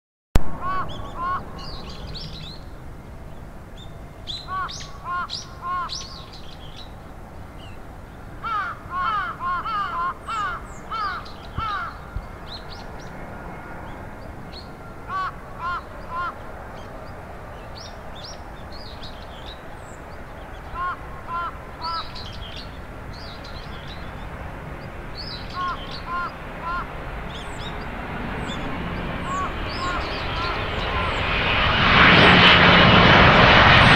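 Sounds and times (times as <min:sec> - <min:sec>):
low background noise: 0:00.4 - 0:31.6
birds calling: 0:00.5 - 0:33.9.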